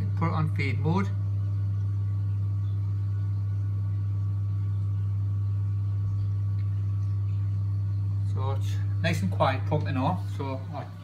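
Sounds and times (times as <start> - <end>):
aquarium pump humming: 0.0 - 11.0.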